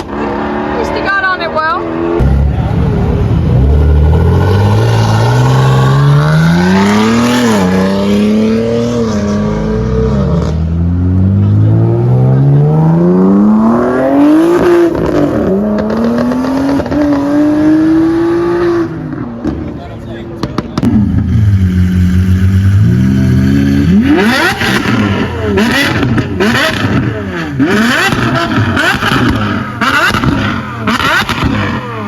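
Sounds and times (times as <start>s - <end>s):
car engine accelerating hard: 0.0s - 19.7s, 20.4s - 32.0s.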